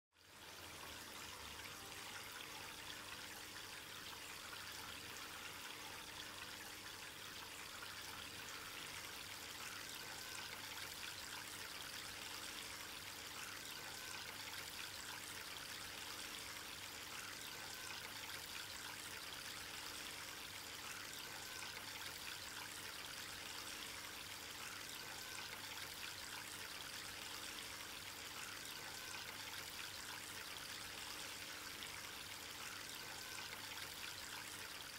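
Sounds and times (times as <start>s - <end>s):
fountain water trickling and splashing: 0.2s - 34.9s.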